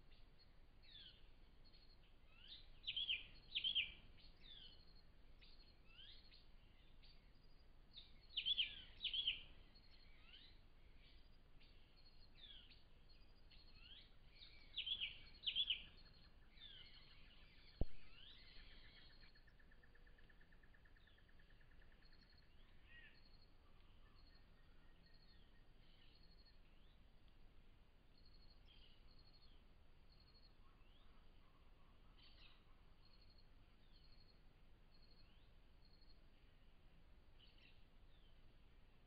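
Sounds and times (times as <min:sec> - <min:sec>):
faint bird chirps: 0:00.0 - 0:39.0.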